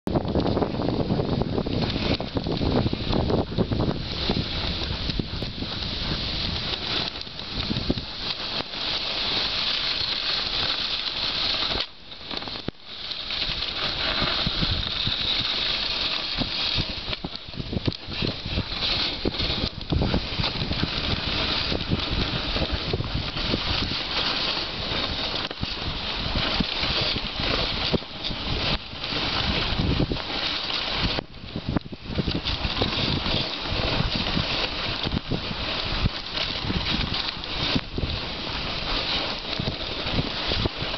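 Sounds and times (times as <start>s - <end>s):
sled runners hissing on snow: 0.4s - 40.9s
dogs' paws pattering: 1.6s - 40.9s.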